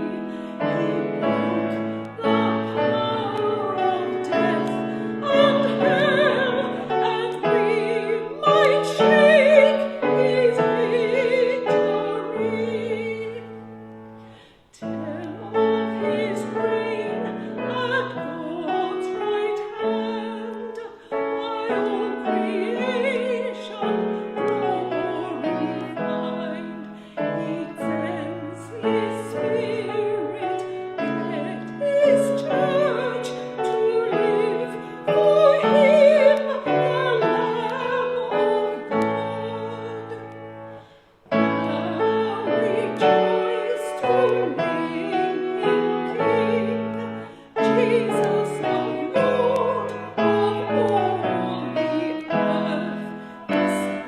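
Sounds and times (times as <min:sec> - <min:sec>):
person singing with vibrato: 0:00.0 - 0:54.0
piano: 0:00.0 - 0:54.0.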